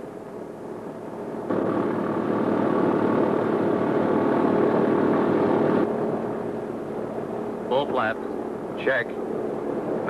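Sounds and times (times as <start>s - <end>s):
radial engines droning: 0.0s - 10.0s.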